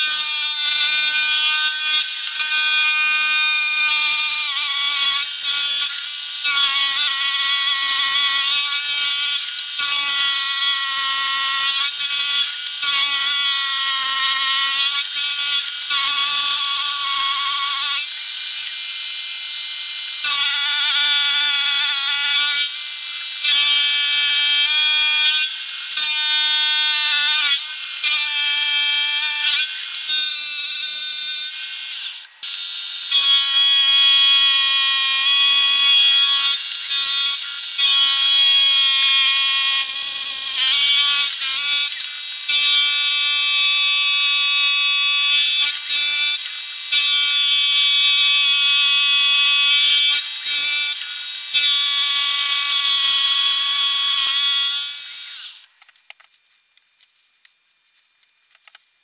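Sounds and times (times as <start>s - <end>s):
end mill cutting metal: 0.0s - 55.7s.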